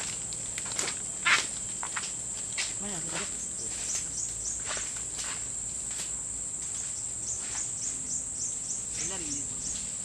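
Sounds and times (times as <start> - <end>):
forest insects droning: 0.0 - 10.0.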